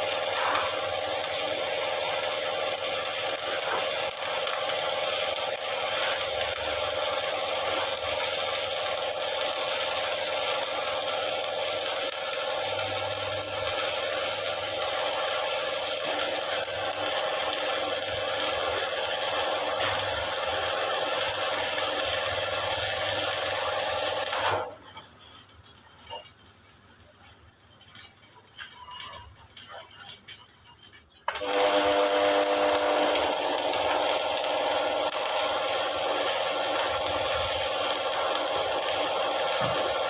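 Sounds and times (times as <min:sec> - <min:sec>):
arc welding crackle: 0:00.0 - 0:40.0.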